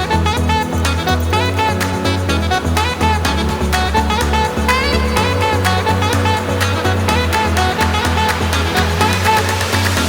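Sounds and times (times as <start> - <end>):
swing jazz music: 0.0 - 10.0.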